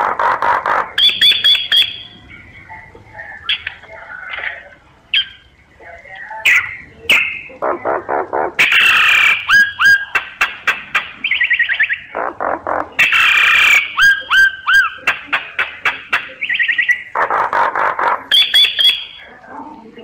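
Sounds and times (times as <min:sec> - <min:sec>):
recorded bird song: 0:00.0 - 0:20.0.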